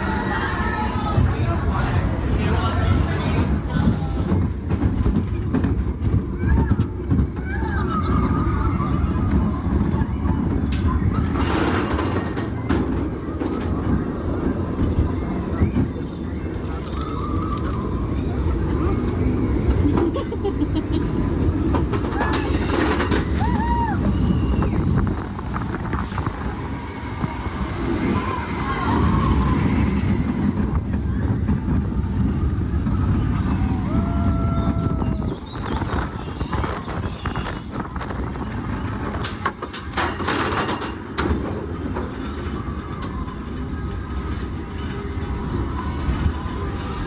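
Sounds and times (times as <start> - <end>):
roller coaster rumbling on track: 0.0 - 47.0.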